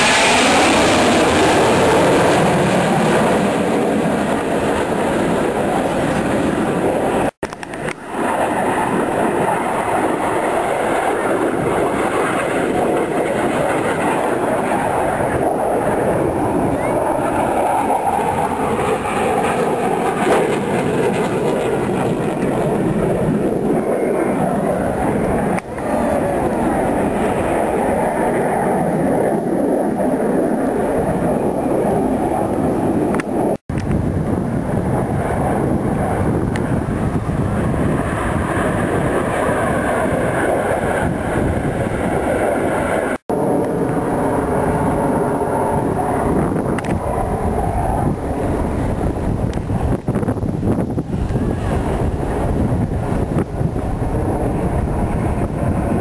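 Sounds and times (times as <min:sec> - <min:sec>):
jet noise rushing: 0:00.0 - 0:56.0
wind on microphone: 0:00.0 - 0:56.0.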